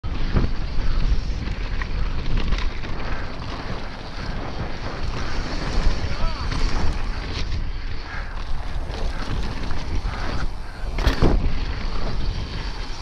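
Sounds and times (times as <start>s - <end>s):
wind rushing on microphone: 0.0s - 13.0s
bike knocks and rattles: 0.1s - 13.0s.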